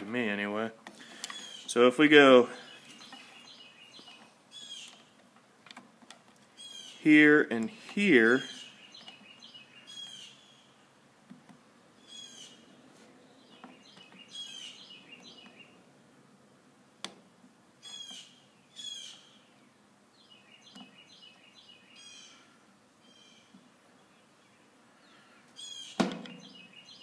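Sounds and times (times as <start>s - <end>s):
bird chirps and songs: 1.0s - 5.3s, 6.4s - 11.0s, 12.0s - 16.6s, 17.8s - 27.0s.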